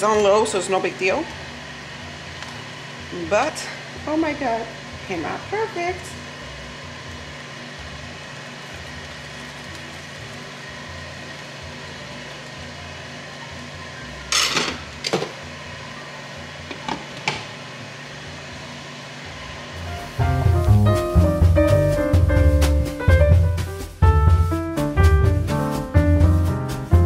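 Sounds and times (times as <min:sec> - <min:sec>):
grill fan hum: 0:00.0 - 0:27.0.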